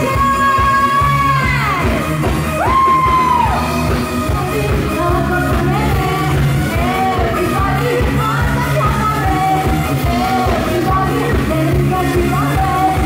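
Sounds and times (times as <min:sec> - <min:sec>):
live rock-pop band playing: 0:00.0 - 0:13.0
woman singing into a microphone: 0:00.0 - 0:13.0.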